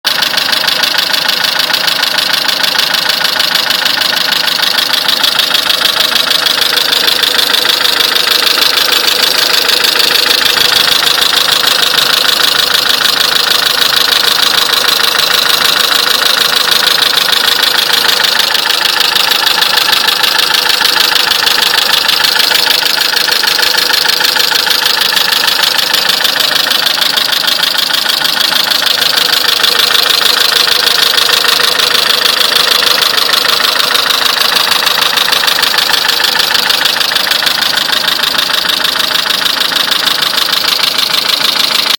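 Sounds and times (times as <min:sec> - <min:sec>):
car engine idling with knock: 0:00.0 - 0:41.9.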